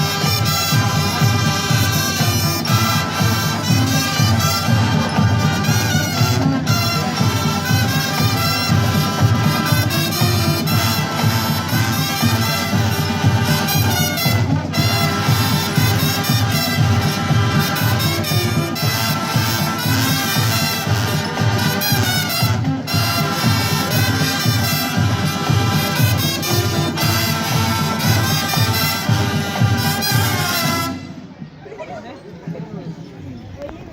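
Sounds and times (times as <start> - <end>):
low drum beat: 0.0 - 31.0
trumpets and trombones: 0.0 - 31.5.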